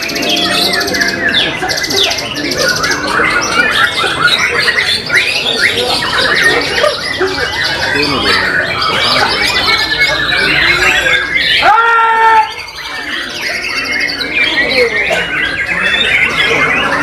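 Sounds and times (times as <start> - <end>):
birds singing rapid phrases: 0.0 - 17.0.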